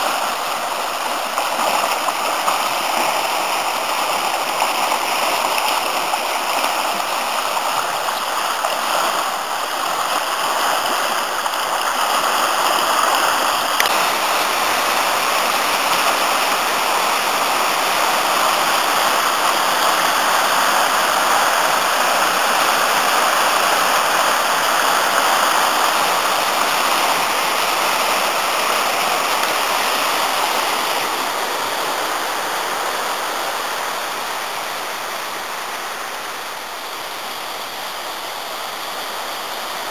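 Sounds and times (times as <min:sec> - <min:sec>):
river rushing over rapids: 0:00.0 - 0:39.9.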